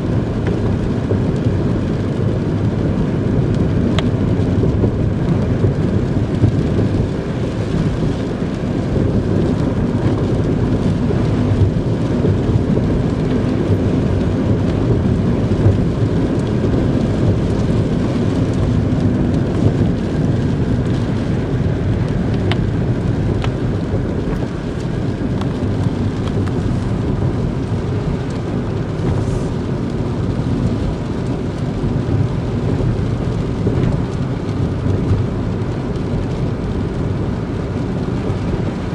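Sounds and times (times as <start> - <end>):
car driving road and engine noise: 0.0 - 38.9.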